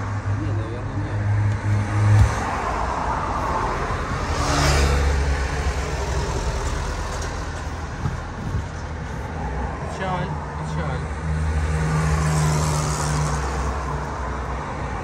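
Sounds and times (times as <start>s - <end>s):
road traffic: 0.0s - 15.0s
vehicle passing: 1.3s - 15.0s.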